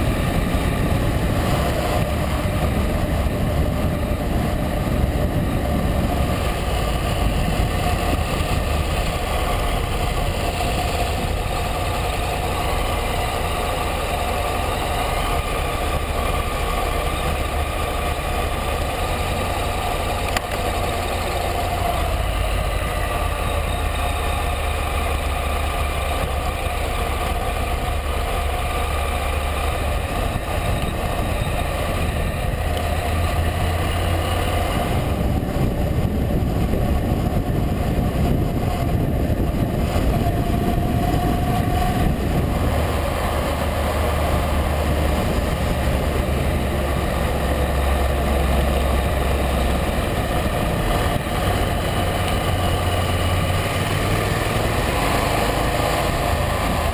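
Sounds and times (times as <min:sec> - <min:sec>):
motorcycle engine running: 0:00.0 - 0:56.9
wind noise on microphone: 0:00.0 - 0:56.9.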